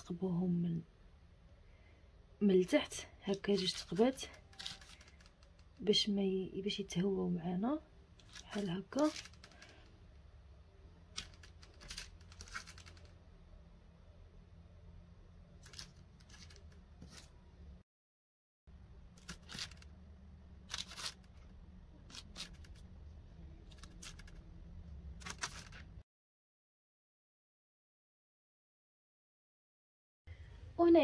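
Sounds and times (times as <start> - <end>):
low steady hum: 0.0 - 17.8, 18.7 - 26.0.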